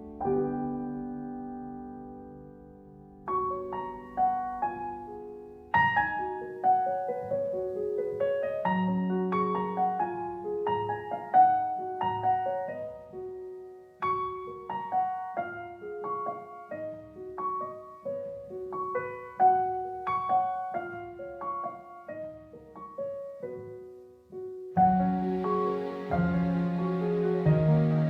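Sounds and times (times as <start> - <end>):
gentle solo piano: 0.0 - 28.0.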